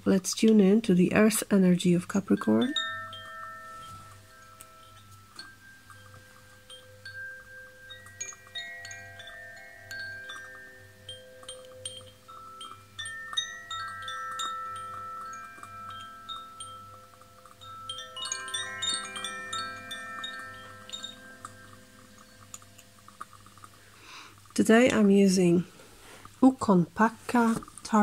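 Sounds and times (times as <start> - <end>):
chimes ringing: 2.3 - 25.6.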